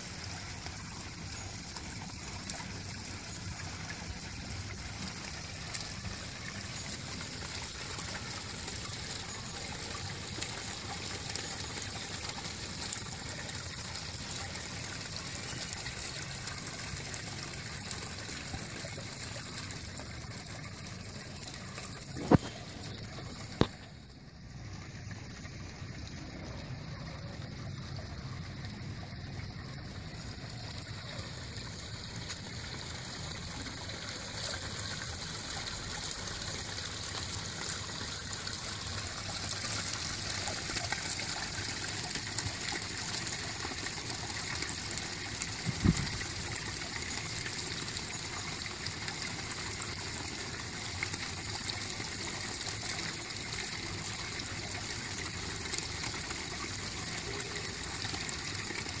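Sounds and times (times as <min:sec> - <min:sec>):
fountain water splashing into basin: 0:00.0 - 0:59.0.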